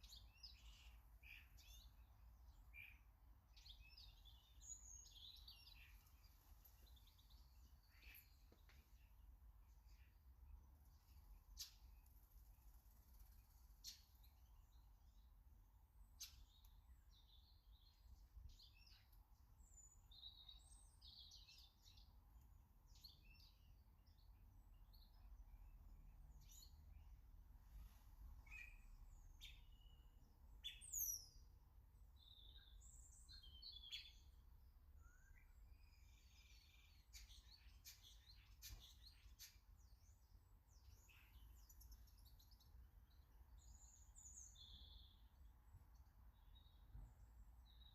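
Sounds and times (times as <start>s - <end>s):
garden birds chirping: 0.0s - 47.9s.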